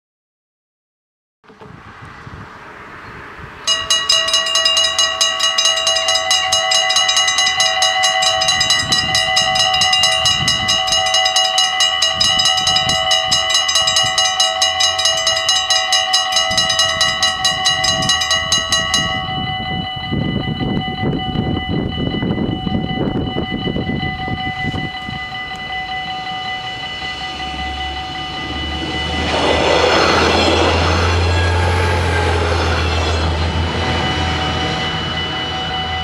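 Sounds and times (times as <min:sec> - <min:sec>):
level crossing bells ringing: 0:03.7 - 0:36.0.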